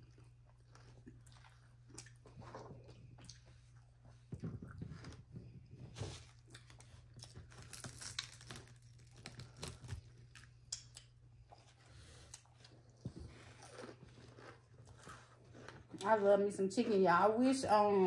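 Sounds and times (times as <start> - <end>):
crunchy chewing of fried chicken: 0.0 - 16.2.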